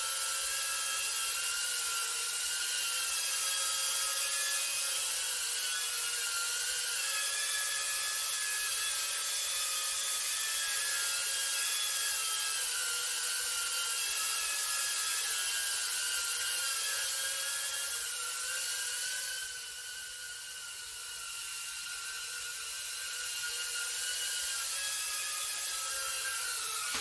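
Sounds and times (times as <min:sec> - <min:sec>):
drone motors whining: 0:00.1 - 0:27.0.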